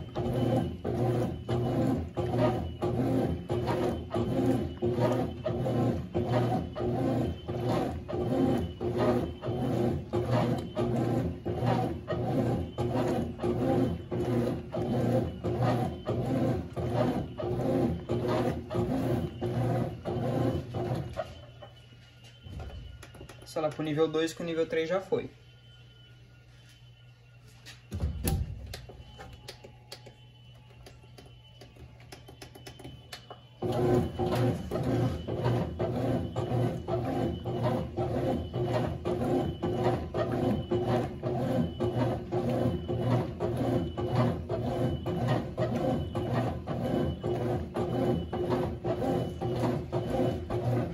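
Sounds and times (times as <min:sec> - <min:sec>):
washing machine churning: 0:00.0 - 0:25.1, 0:27.9 - 0:50.9
washing machine motor humming: 0:00.0 - 0:26.2, 0:27.7 - 0:50.9.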